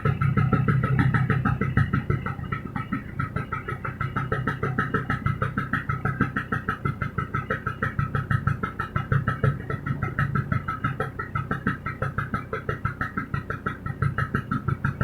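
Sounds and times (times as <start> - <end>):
scooter engine idling: 0.0 - 15.0.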